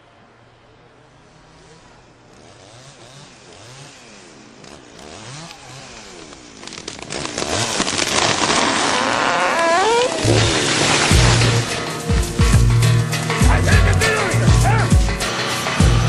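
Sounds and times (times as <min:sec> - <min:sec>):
chainsaw engine revving: 0:01.1 - 0:16.0.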